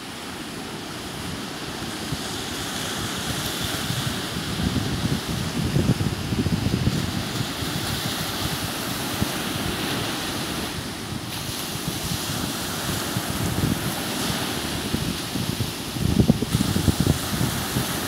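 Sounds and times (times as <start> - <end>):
sea waves breaking on shore: 0.0 - 18.0
wind buffeting microphone: 0.7 - 18.0.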